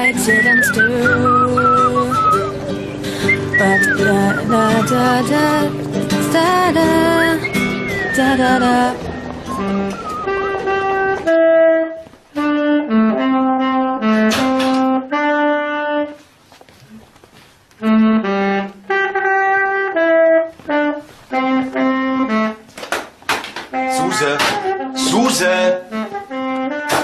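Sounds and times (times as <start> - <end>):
saxophone melody: 0.0 - 16.6, 17.7 - 22.8, 23.7 - 27.0.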